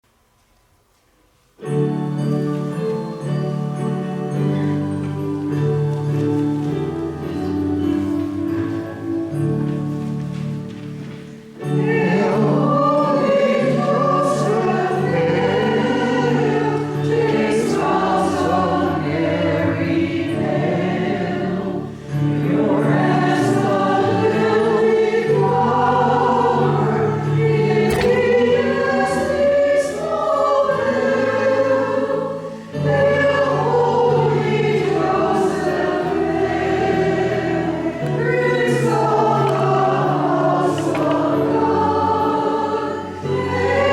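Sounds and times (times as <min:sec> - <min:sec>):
choir singing a hymn: 0:01.7 - 0:43.9.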